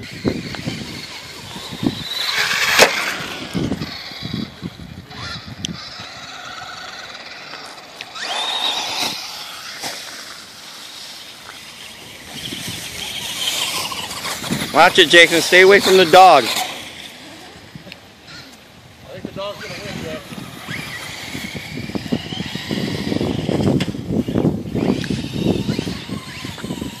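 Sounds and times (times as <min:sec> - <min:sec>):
electric motors whining: 0:00.0 - 0:27.0
tyre and chassis noise: 0:00.0 - 0:27.0.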